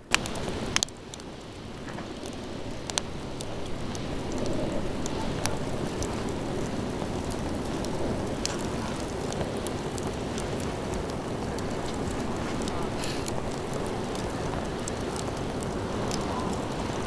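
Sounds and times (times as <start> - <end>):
campfire hissing: 0.0 - 17.0
fire crackles and pops: 0.0 - 17.0.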